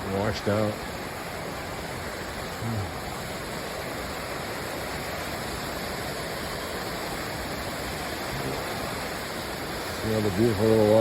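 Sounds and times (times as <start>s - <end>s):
river rushing over waterfalls: 0.0s - 11.0s.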